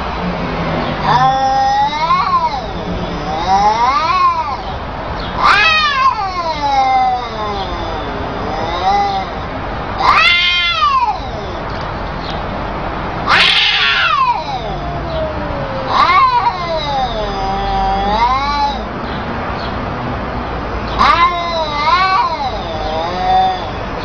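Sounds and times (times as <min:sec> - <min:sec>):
cats meowing: 0:01.0 - 0:12.5, 0:13.2 - 0:19.2, 0:20.8 - 0:24.0.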